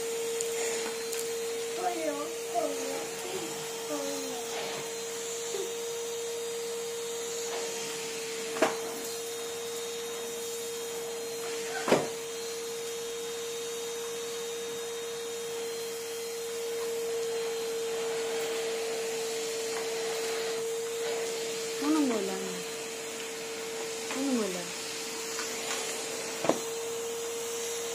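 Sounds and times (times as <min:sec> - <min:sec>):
vacuum cleaner running: 0:00.0 - 0:27.9.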